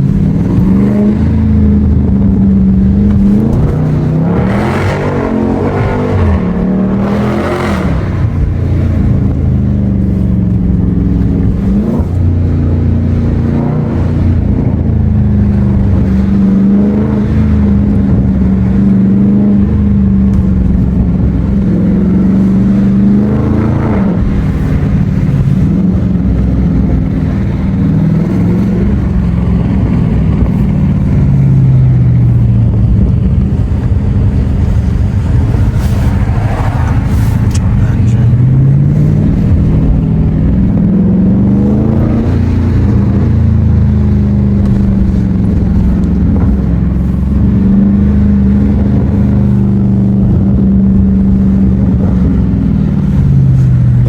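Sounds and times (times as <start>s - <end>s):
car exhaust drone while driving: 0.0s - 54.0s.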